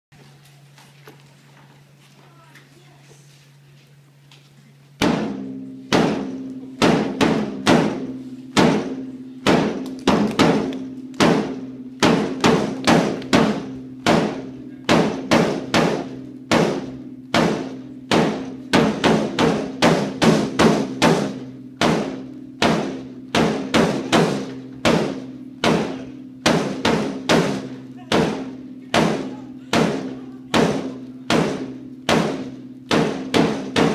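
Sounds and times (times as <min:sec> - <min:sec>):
drum beat: 0:05.0 - 0:33.9.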